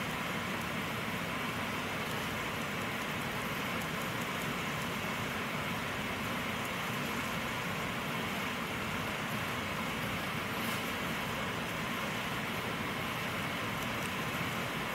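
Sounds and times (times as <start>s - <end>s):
constant hiss: 0.0s - 14.9s.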